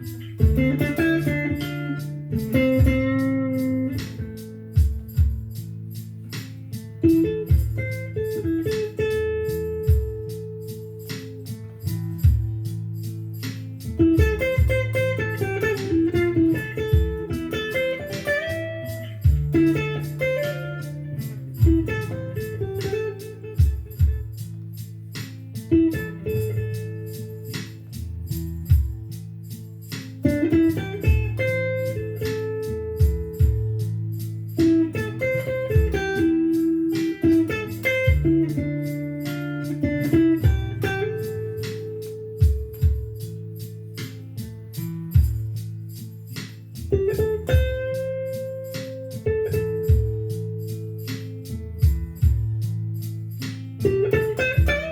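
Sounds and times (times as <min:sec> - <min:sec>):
electric guitar blues melody: 0:00.0 - 0:54.9
steady beat: 0:00.0 - 0:54.9.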